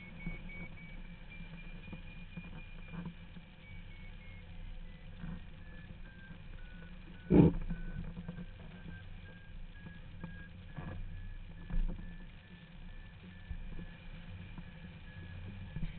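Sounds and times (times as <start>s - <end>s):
variometer beeping: 0.0s - 14.0s.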